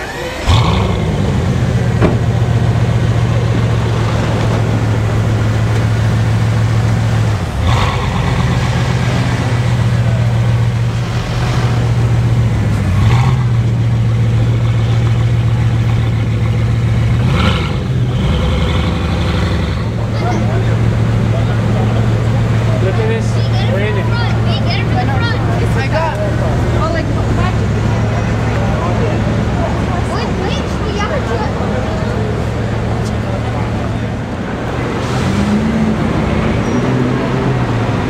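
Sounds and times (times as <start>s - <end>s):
car engine starting and idling: 0.0s - 38.0s.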